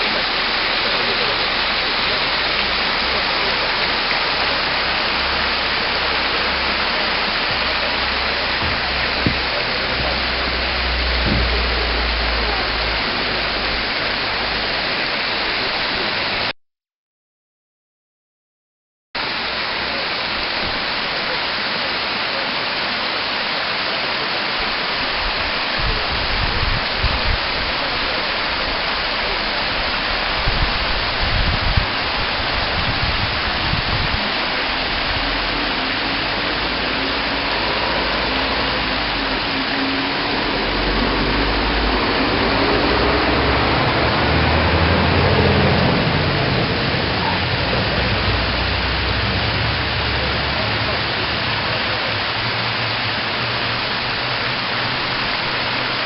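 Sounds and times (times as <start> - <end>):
low rumbles: 0.0 - 16.3, 24.8 - 56.0
waterfall splashing into pool: 0.0 - 16.5, 19.2 - 56.0.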